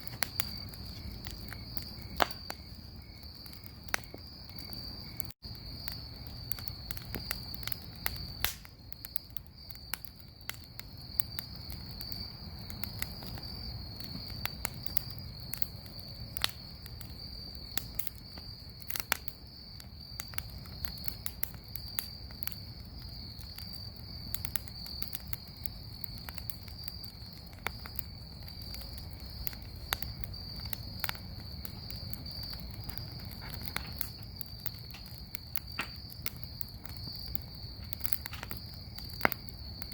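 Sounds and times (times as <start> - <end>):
bonfire crackling and popping: 0.0 - 39.9
insects trilling: 0.0 - 39.9.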